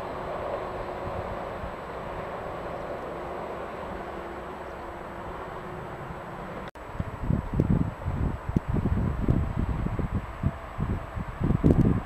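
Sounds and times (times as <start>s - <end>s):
road traffic: 0.0s - 12.0s
train rumbling: 0.0s - 12.0s.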